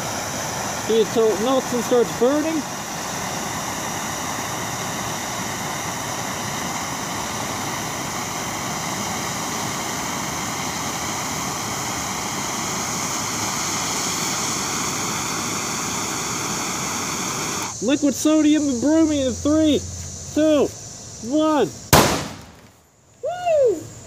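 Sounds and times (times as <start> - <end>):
gas torch flame hissing: 0.0 - 22.6.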